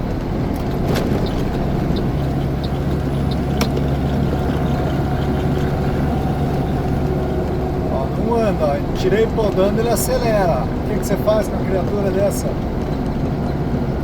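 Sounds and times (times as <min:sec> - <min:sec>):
truck diesel engine drone: 0:00.0 - 0:14.0.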